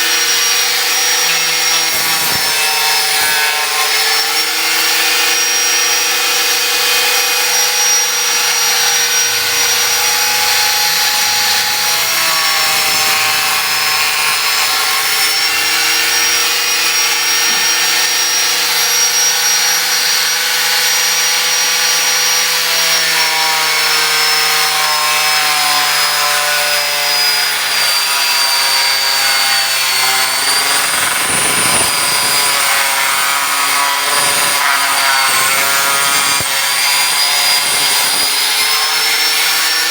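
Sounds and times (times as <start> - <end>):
angle grinder cutting metal: 0.0 - 39.9.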